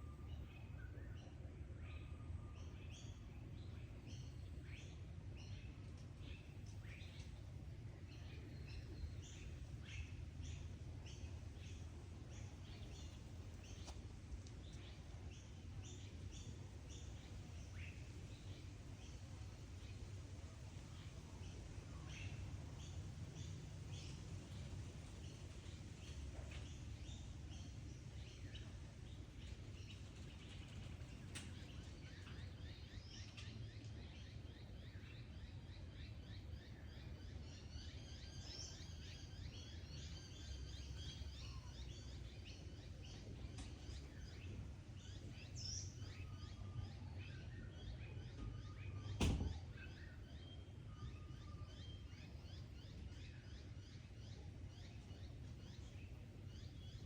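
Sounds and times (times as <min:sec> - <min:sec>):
small birds chirping: 0:00.1 - 0:57.0.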